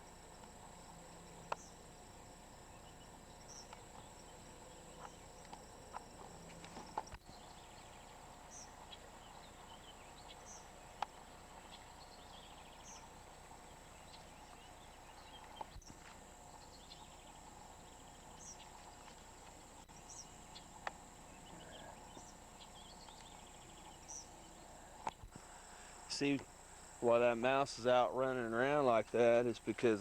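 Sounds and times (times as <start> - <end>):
faint chirps: 0.0 - 30.0
high insect drone: 0.0 - 30.0.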